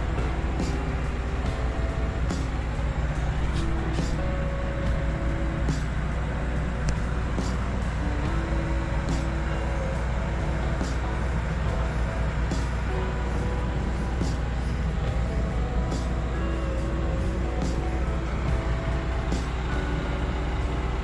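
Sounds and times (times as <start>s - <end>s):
background music of held notes: 0.0s - 21.0s
diesel engine droning: 0.0s - 21.0s.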